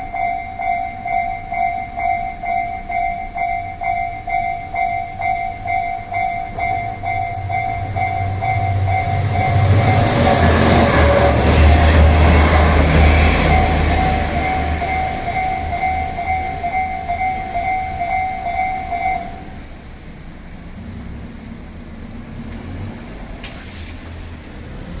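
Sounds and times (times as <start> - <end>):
level crossing warning bell: 0.0 - 20.0
railcar rumbling past: 0.0 - 25.0.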